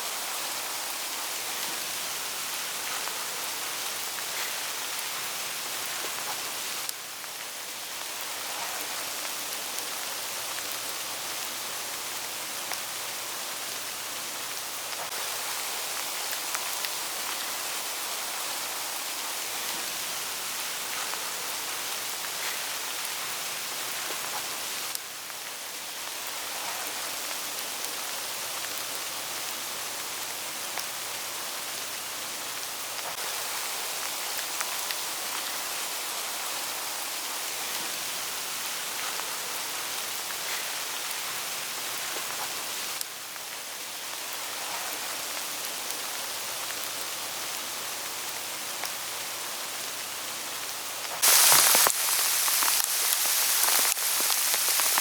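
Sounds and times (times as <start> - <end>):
hail falling on leaves: 0.0 - 55.0.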